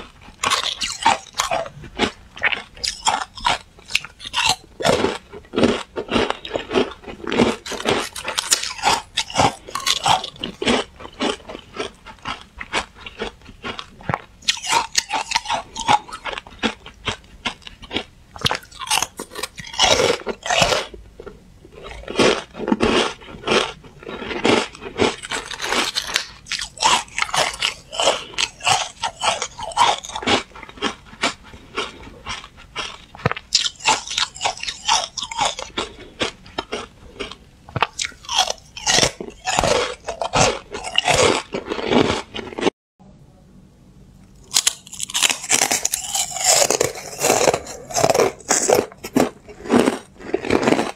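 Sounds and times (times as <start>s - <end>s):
ice being chewed: 0.0s - 42.7s, 44.4s - 50.9s.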